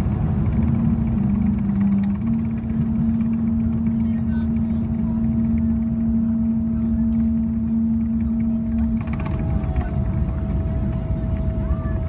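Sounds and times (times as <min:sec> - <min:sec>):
airplane cabin rumble on landing: 0:00.0 - 0:12.0
strong steady hum: 0:00.0 - 0:12.0.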